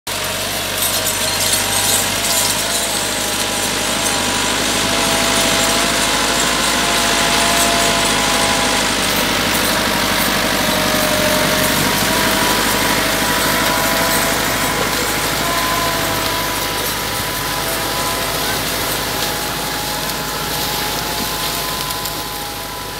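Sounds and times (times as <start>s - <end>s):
tractor diesel engine: 0.0s - 22.9s
continuous hiss: 0.1s - 22.9s
thin high steady tones: 0.1s - 22.9s.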